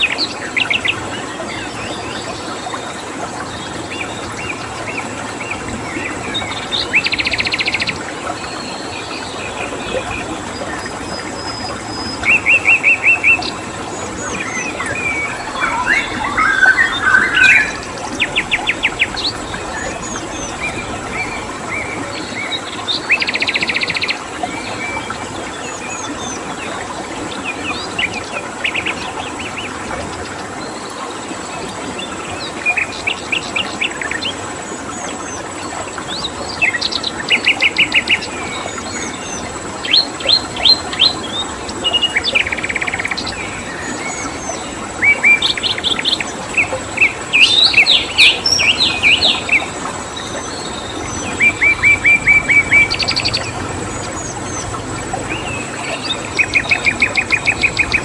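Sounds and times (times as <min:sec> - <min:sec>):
crickets droning: 0:00.0 - 0:30.6, 0:31.2 - 0:58.0
songbirds chirping: 0:00.0 - 0:30.9, 0:31.6 - 0:58.0
flowing water: 0:00.0 - 0:58.0.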